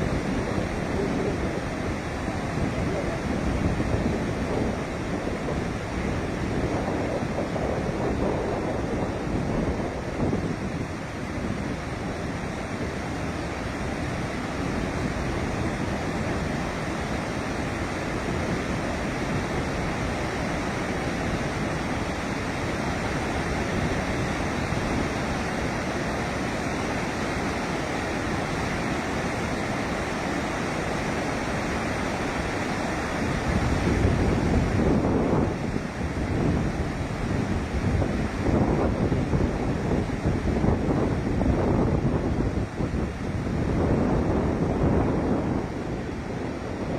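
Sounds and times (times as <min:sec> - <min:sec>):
water rushing from dam gates: 0:00.0 - 0:46.9.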